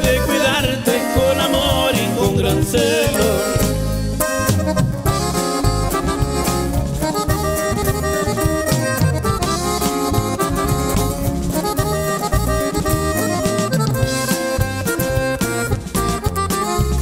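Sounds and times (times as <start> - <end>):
bass: 0.0 - 17.0
button accordion melody: 0.0 - 17.0
drums: 0.0 - 17.0.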